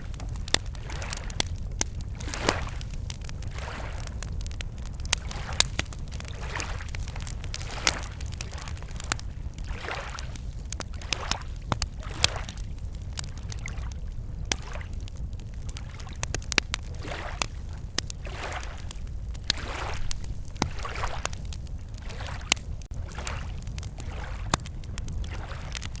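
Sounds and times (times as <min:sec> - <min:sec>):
waves lapping against shore: 0:00.0 - 0:15.1, 0:15.7 - 0:26.0
campfire crackling and popping: 0:00.0 - 0:26.0.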